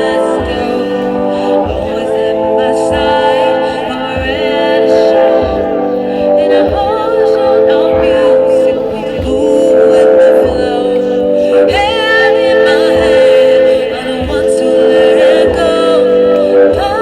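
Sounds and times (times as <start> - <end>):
held accompaniment: 0.0 - 17.0
low beat: 0.0 - 17.0
person singing: 0.0 - 17.0.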